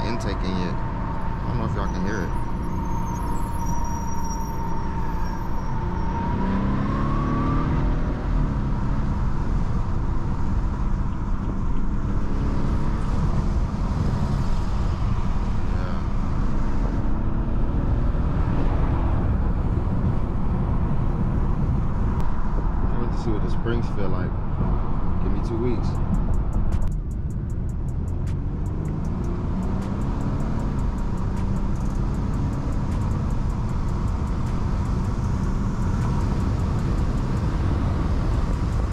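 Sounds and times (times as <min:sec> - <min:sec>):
car engine accelerating: 0:00.0 - 0:38.9
road noise: 0:00.0 - 0:38.9.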